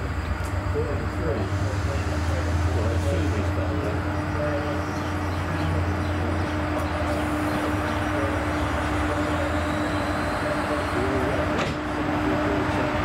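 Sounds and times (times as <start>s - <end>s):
constant hum: 0.0s - 13.0s
locomotive engine drone: 0.0s - 13.0s.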